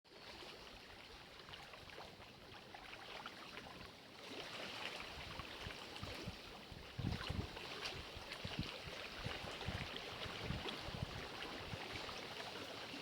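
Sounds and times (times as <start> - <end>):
lake water lapping: 0.2 - 13.0.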